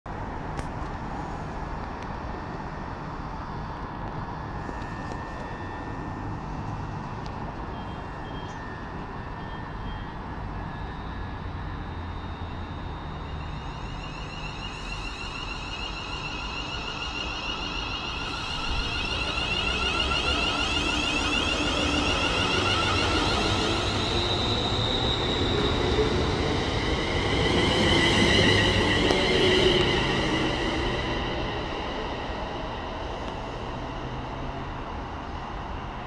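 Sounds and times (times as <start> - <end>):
train equipment hum: 0.1 - 36.0
traction motor whine: 2.0 - 35.6.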